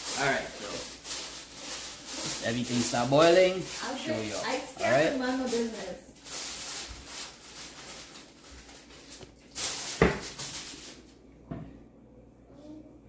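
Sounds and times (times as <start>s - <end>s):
rustling and handling noises: 0.0s - 11.2s.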